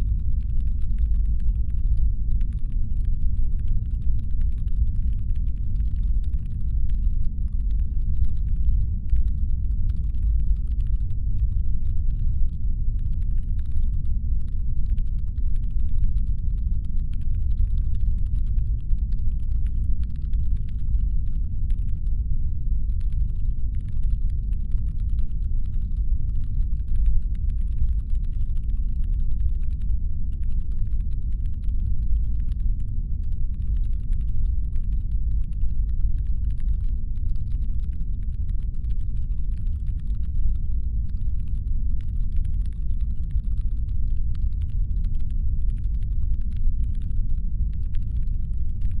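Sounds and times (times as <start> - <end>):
deep brown-noise rumble: 0.0 - 49.0.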